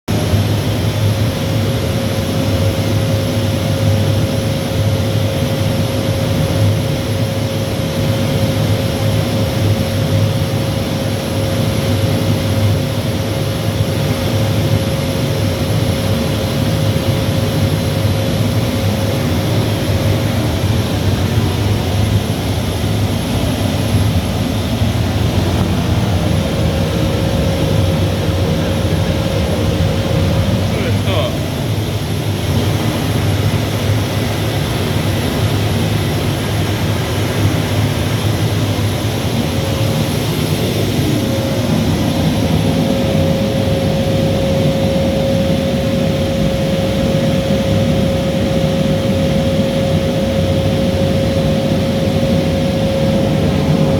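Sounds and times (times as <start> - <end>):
constant hum tone: 0.1 - 53.9
steam boiler roaring: 0.1 - 53.9.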